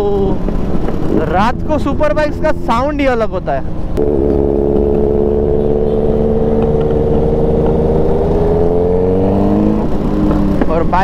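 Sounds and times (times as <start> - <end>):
motorcycle engines cruising: 0.0 - 11.0.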